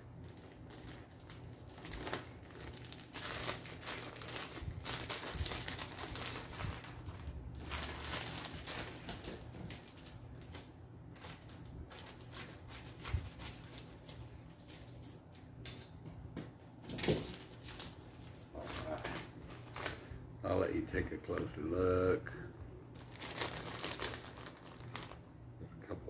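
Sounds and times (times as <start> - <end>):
plastic bag crinkling: 0.0 - 15.3, 16.9 - 20.2, 22.9 - 25.3.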